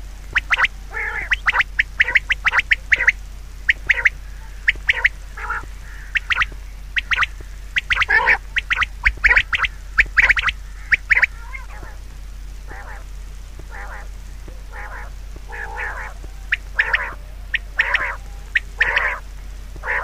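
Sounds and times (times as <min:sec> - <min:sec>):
short animal calls: 0:00.3 - 0:12.0, 0:12.7 - 0:20.0.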